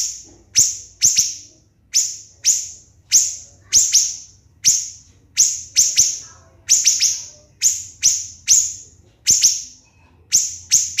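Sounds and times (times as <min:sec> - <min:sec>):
shrill clipped bird calls: 0:00.0 - 0:11.0.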